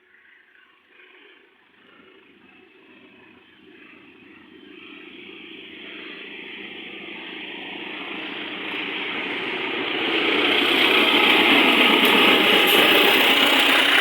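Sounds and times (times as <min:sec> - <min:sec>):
diesel locomotive approaching: 0:00.2 - 0:14.0.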